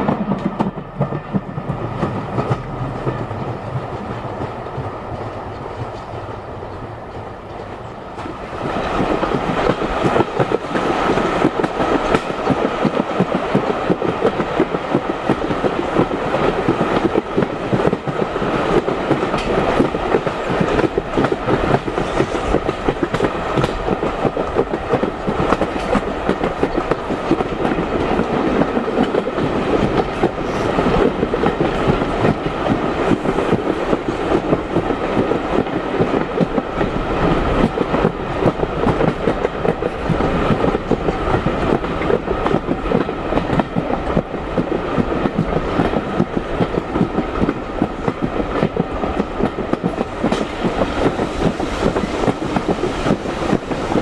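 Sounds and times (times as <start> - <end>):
train coaches rumbling: 0.0 - 54.0.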